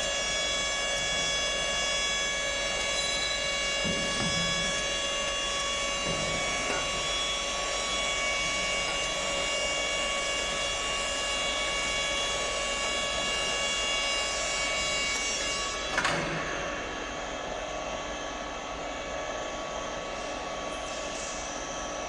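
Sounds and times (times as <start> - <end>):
machine drive high whine: 0.0 - 22.0
mechanical hum: 0.0 - 22.0.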